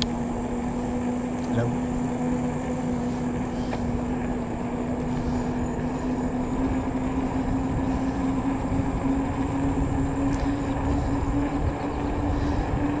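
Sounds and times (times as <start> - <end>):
electric bike motor whining: 0.0 - 13.0
tyre noise on pavement: 0.0 - 13.0
wind buffeting microphone: 0.0 - 13.0.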